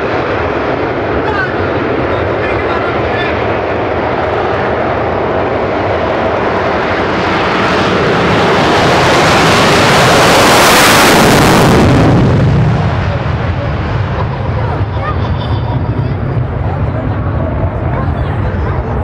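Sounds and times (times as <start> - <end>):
jet engine roaring: 0.0 - 19.0.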